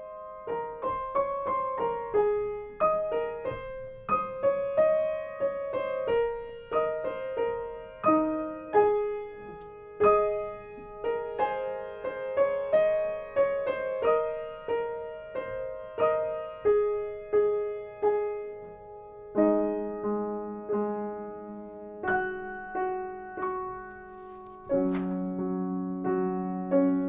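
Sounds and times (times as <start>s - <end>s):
slow gentle piano melody: 0.0s - 27.0s.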